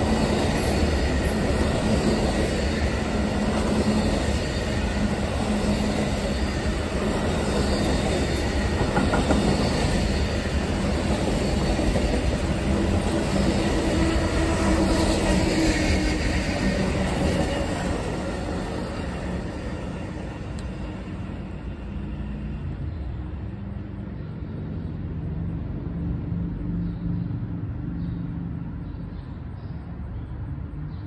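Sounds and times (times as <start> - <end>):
train wheels on rails: 0.0 - 27.6.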